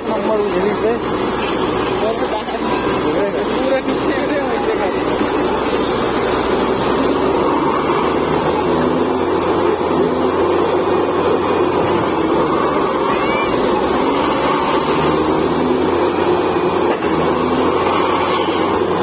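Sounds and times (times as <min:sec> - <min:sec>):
compressed air blowing out: 0:00.0 - 0:19.0
drilling rig running: 0:00.0 - 0:19.0.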